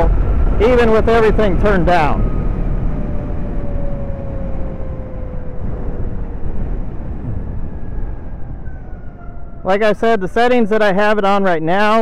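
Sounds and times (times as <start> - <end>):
wind rushing over microphone: 0.0 - 10.9.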